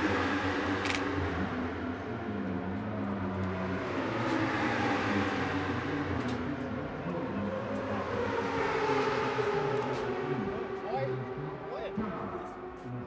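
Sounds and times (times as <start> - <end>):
racing motorcycle engines droning: 0.0 - 13.0.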